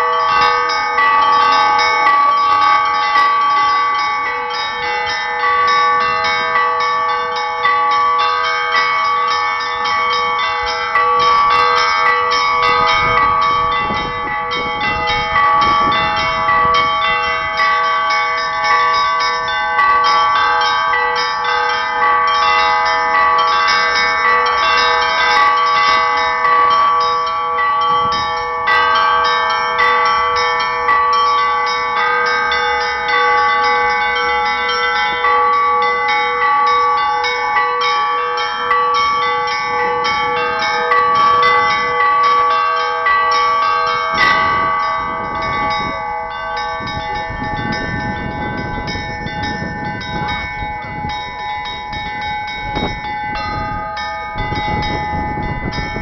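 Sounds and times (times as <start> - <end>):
large bells ringing: 0.0 - 56.0
rapid peal of small bells: 0.0 - 56.0.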